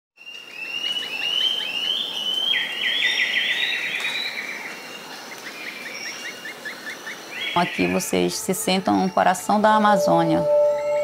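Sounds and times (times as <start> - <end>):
birds chirping: 0.2 - 11.0
steady background hiss: 0.3 - 11.0.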